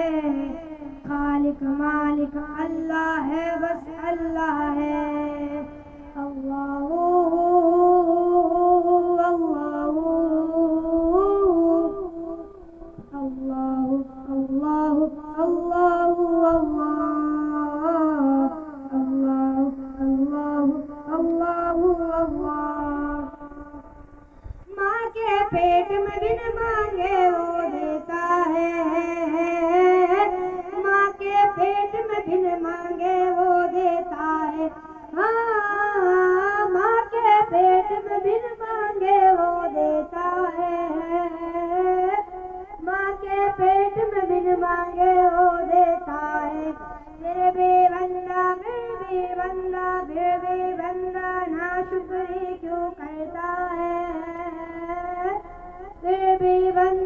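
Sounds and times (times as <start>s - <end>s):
boy singing over loudspeakers: 0.0s - 57.0s.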